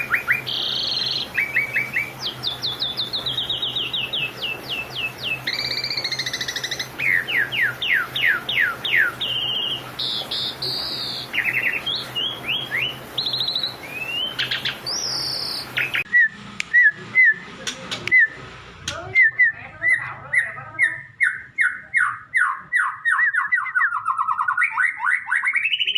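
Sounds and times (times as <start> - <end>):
bird chirping: 0.0 - 25.9
songbird whistles and trills: 0.0 - 25.9.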